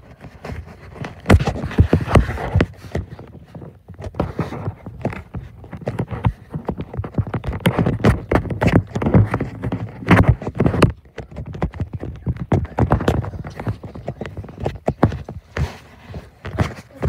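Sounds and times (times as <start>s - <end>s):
phone knocking and rustling: 0.0s - 17.0s.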